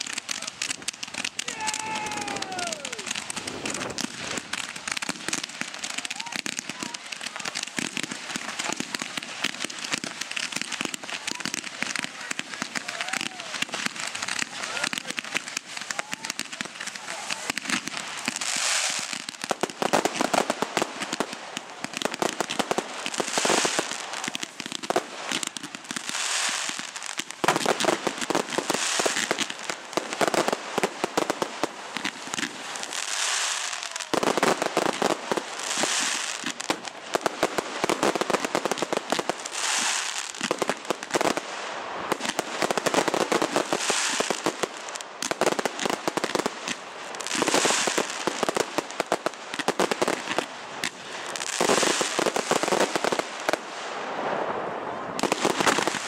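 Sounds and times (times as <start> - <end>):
fireworks crackling: 0.0 - 56.0
loud hissing of fireworks: 0.0 - 56.0.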